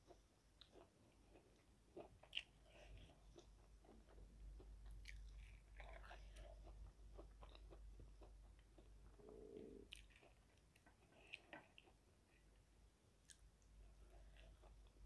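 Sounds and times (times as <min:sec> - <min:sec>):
crunchy food chewing: 0:00.1 - 0:12.6.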